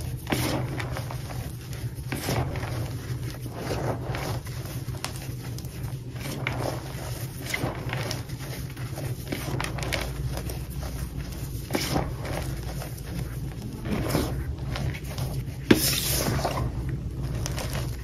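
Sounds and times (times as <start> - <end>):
powder squeaking and crunching: 0.0 - 18.0.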